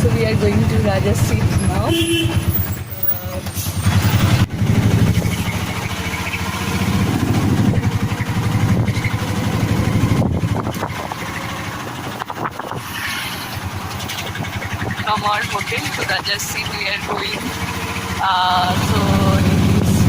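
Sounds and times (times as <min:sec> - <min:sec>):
auto-rickshaw engine pulsing: 0:00.0 - 0:20.0.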